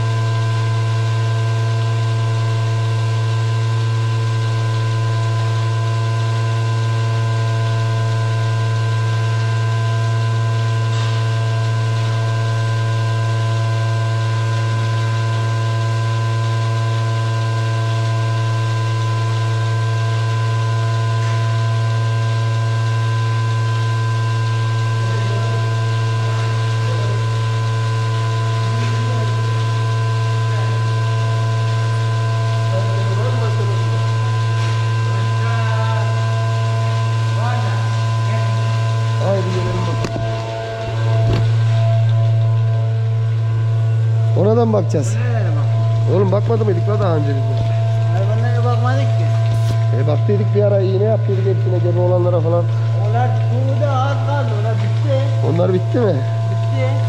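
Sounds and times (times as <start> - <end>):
machine humming: 0.0 - 57.0.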